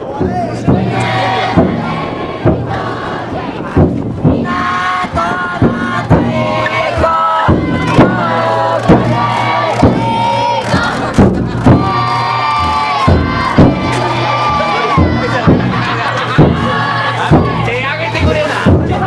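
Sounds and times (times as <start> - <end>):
crowd shouting and chanting: 0.0 - 19.0
heavy drum strokes: 0.0 - 19.0.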